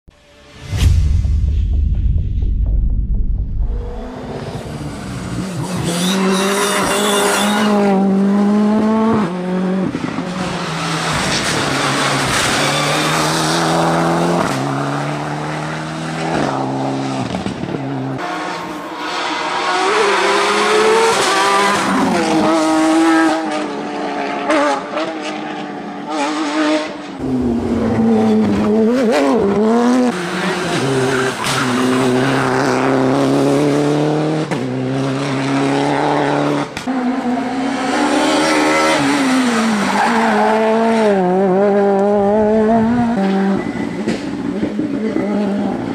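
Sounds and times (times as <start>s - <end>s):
rally car engines revving: 3.8s - 45.9s.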